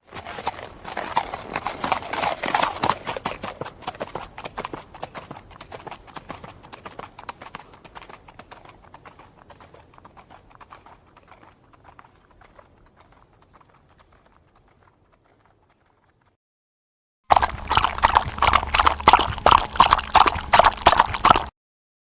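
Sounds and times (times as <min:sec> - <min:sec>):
horse hoofbeats galloping: 0:00.0 - 0:16.4, 0:17.3 - 0:21.5.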